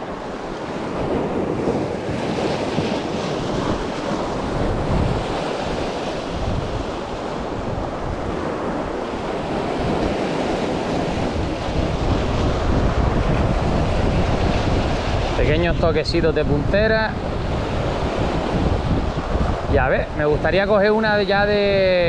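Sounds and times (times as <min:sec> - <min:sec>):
surf washing over rocks: 0:00.0 - 0:22.0
wind buffeting microphone: 0:00.0 - 0:22.0.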